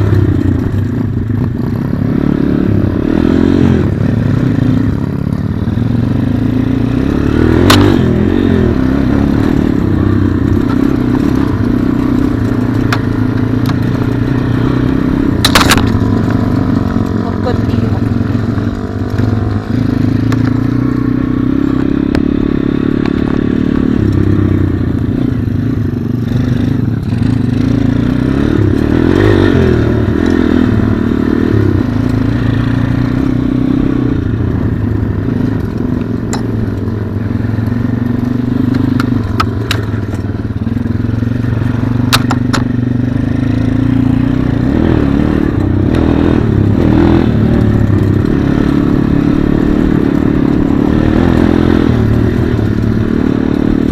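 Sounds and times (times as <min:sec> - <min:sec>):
motorbike engine running: 0:00.0 - 0:53.9.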